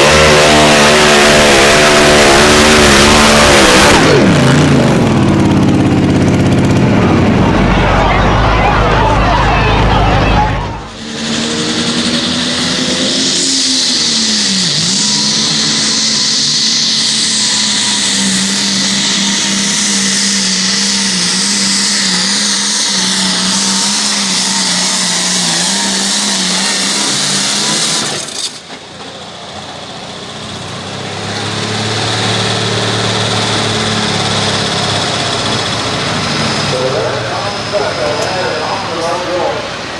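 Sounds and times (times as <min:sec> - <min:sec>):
another engine: 0:00.0 - 0:39.9
tractor engine whining at high revs: 0:00.0 - 0:39.9.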